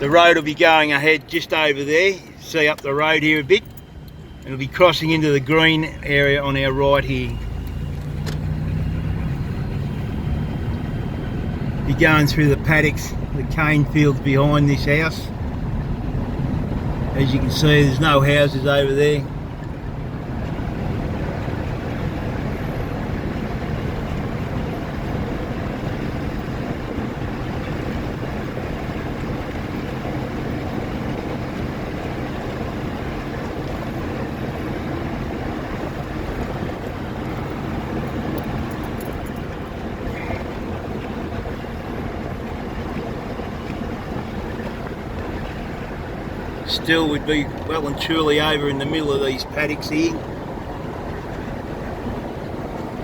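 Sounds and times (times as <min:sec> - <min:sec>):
car engine and tyres on road: 0:00.0 - 0:53.0.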